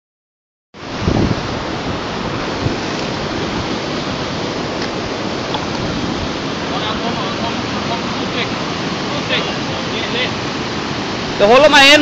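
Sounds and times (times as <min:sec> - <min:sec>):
river water rushing over rocks: 0:00.8 - 0:12.0.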